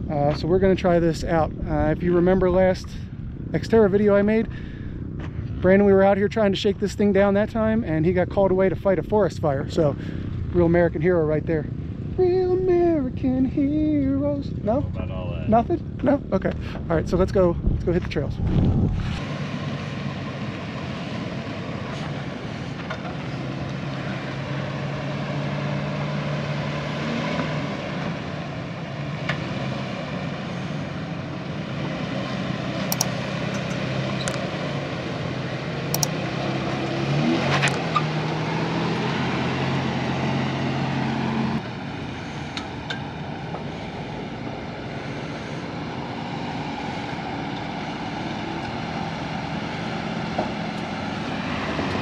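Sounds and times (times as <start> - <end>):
suv engine crawling: 0.0 - 52.0.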